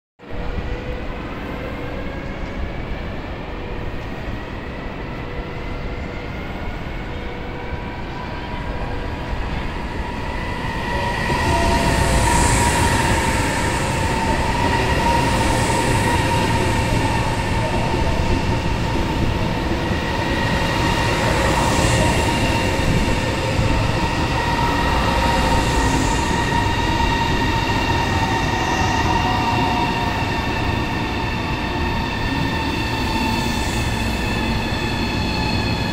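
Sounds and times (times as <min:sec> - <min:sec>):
electric train whine: 0:00.5 - 0:35.9.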